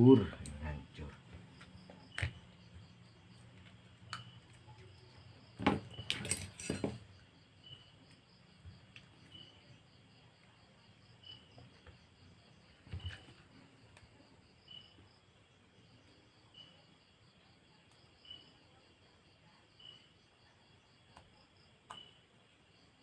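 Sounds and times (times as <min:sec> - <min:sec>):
cricket chirping: 0:00.0 - 0:23.0.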